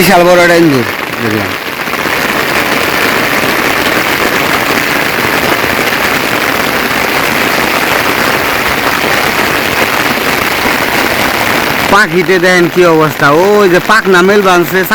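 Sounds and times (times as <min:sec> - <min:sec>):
steady rainfall: 0:00.0 - 0:14.9.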